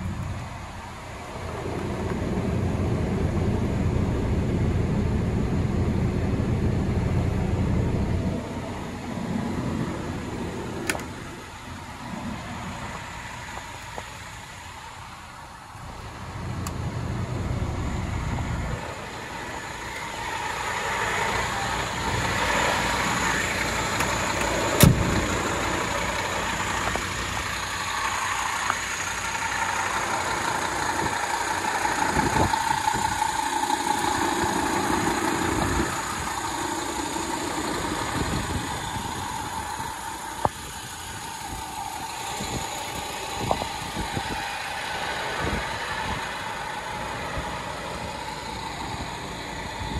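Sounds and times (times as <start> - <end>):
diesel engine starting and idling: 0.0 - 49.9.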